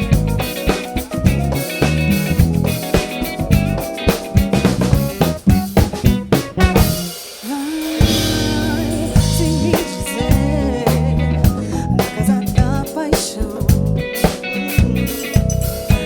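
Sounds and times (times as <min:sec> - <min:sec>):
drum kit with snare: 0:00.0 - 0:16.0.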